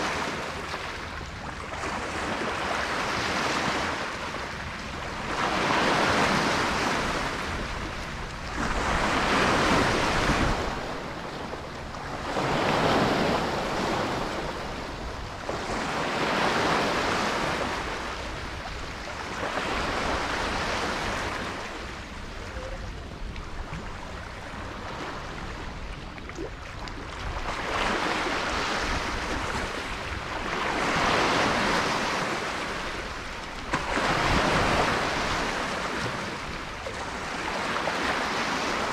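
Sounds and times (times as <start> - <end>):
small waves washing in: 0.0 - 38.9.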